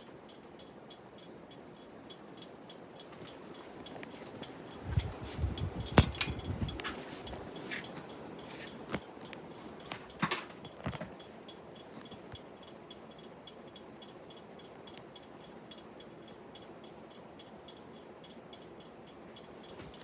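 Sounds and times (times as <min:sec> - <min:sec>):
ceiling fan running: 0:00.0 - 0:20.0
faint ticking: 0:00.0 - 0:20.0
sharp clinks: 0:00.0 - 0:20.0.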